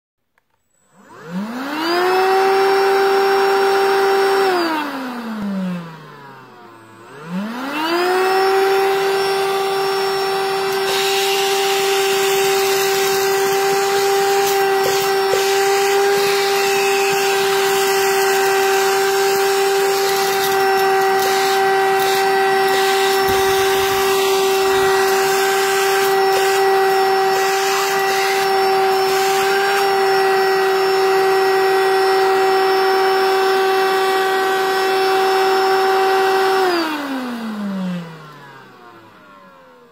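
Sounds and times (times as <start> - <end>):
handheld vacuum motor whine: 0.4 - 39.9
vacuum motor winding down: 0.8 - 39.8.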